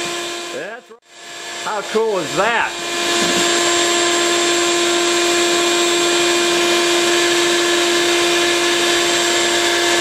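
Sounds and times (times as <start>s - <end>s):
vacuum motor whine: 0.0s - 10.0s.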